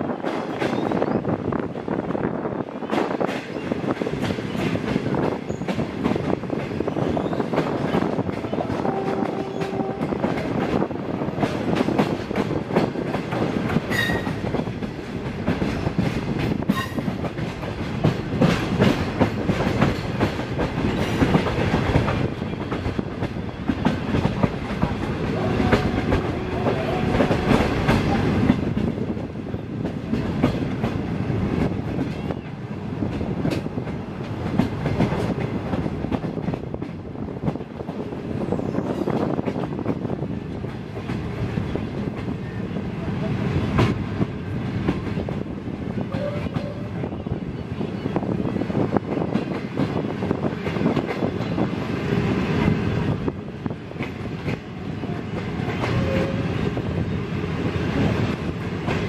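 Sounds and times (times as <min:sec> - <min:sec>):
train wheels clattering over rail joints: 0:02.8 - 0:42.4, 0:48.1 - 0:57.0.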